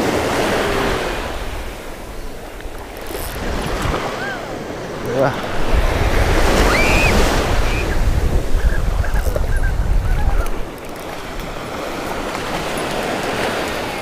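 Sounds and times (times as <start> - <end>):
wind buffeting the microphone: 0.0 - 4.4, 5.0 - 14.0
surf washing on the shore: 0.0 - 14.0.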